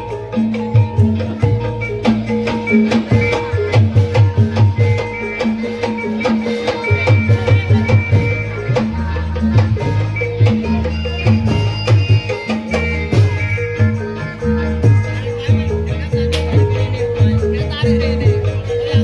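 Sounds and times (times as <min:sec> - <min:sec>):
drums in a fast rhythm: 0:00.0 - 0:19.0.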